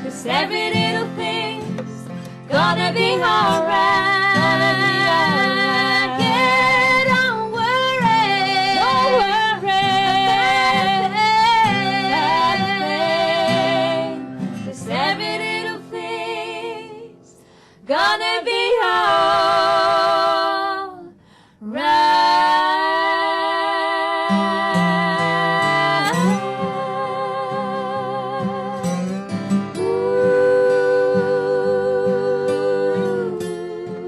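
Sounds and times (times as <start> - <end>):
women singing wordless harmony: 0.0 - 29.1, 29.7 - 34.0
acoustic guitar: 0.0 - 34.0.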